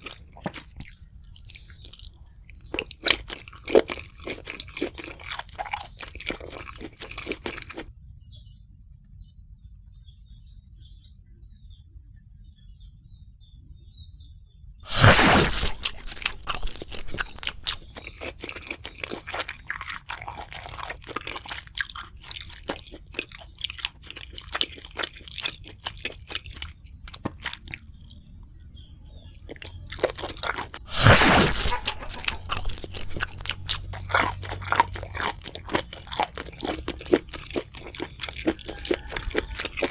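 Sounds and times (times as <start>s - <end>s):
crunching bites of fried food: 0.0s - 7.9s, 14.9s - 39.9s
crackly chewing: 0.0s - 9.4s, 14.9s - 39.9s.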